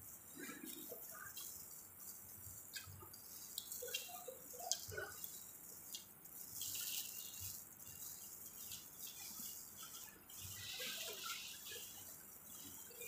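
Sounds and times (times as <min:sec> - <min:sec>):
plastic gloves crinkling: 0:00.0 - 0:13.0.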